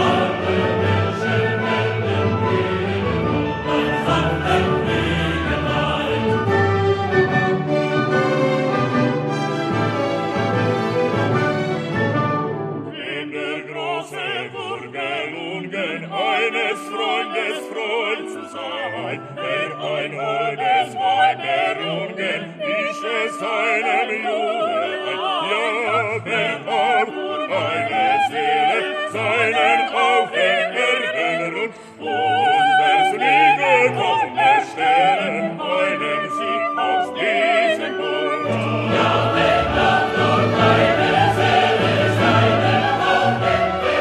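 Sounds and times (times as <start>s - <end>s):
operatic singing with vibrato: 0.0s - 12.0s, 12.9s - 44.0s
choir and orchestra: 0.0s - 44.0s.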